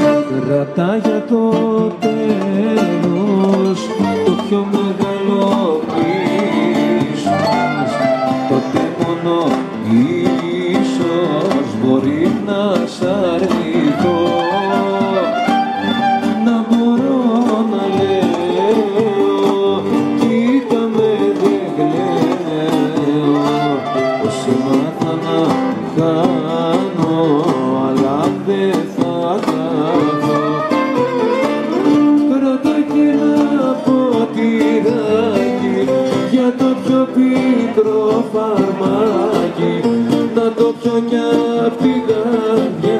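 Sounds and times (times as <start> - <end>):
bouzoukis: 0.0 - 42.9
guitar: 0.0 - 42.9
hand drum beat: 0.0 - 42.9
violin: 0.0 - 42.9.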